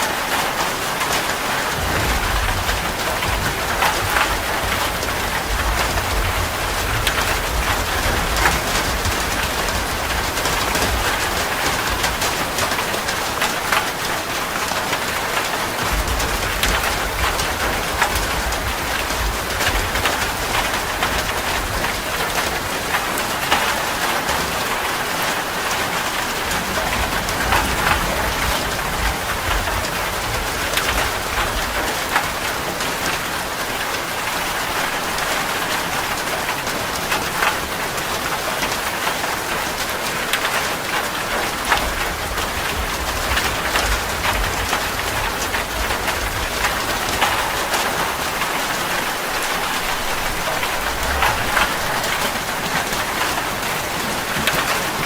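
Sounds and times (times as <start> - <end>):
heavy rain on a metal roof: 0.0 - 55.0
low thunder rumbles: 1.6 - 32.5, 41.3 - 55.0.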